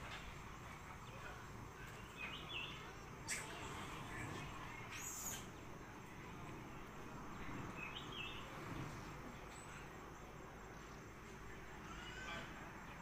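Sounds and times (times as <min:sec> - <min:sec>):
faint forest ambience: 0:00.0 - 0:13.0.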